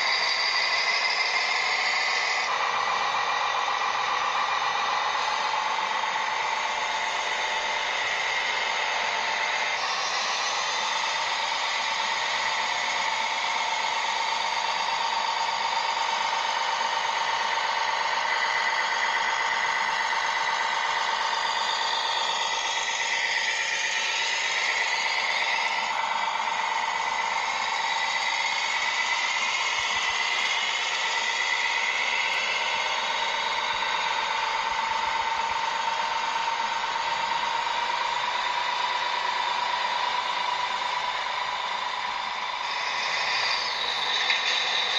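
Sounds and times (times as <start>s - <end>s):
small electric motors whining: 0.0s - 44.9s.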